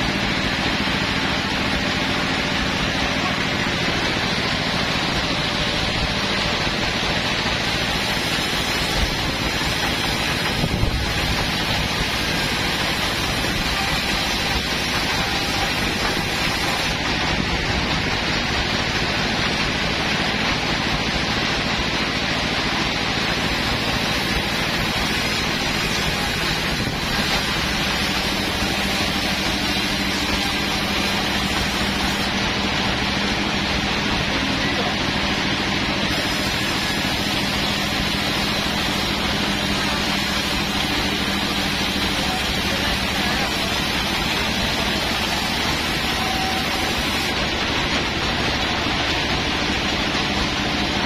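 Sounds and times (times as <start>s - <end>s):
sawmill machinery running: 0.0s - 51.0s.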